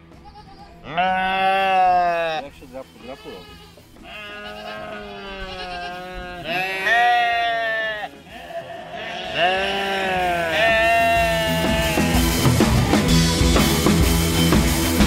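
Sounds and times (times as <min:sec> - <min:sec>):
sheep bleating: 0:00.0 - 0:12.9.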